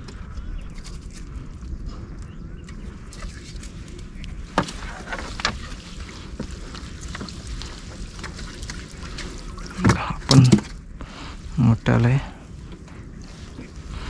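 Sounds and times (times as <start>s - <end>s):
water sloshing and dripping: 0.0s - 11.6s
steady low rumble: 0.0s - 14.0s.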